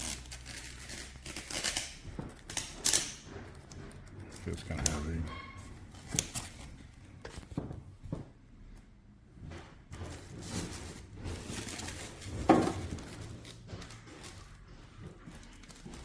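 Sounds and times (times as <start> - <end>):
handling noise rustling and knocks: 0.0 - 16.0.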